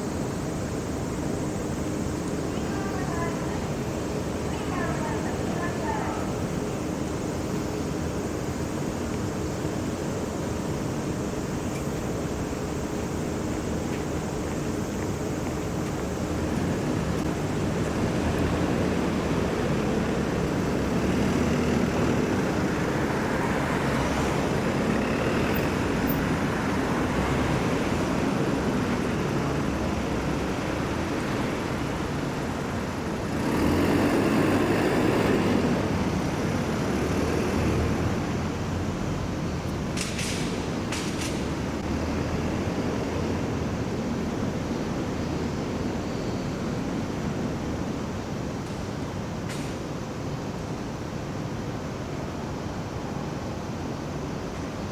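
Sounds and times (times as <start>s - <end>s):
passing vehicles rumbling: 0.0s - 54.9s.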